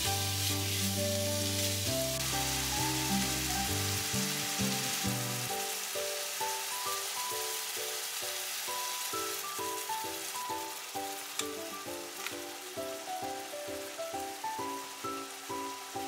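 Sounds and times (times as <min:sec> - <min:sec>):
meat sizzling in a frying pan: 0:00.0 - 0:16.0
soft background music: 0:00.0 - 0:16.0.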